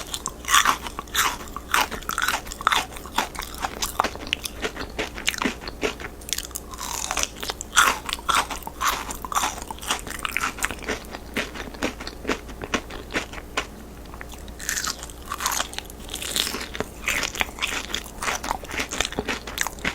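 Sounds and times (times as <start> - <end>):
chewing: 0.0 - 19.9
crunchy fried chicken bites: 0.0 - 19.9.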